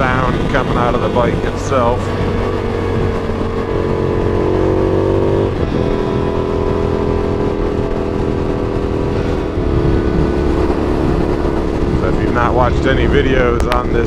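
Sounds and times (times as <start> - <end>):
motorcycle engine running: 0.0 - 14.0
wind rushing: 0.0 - 14.0.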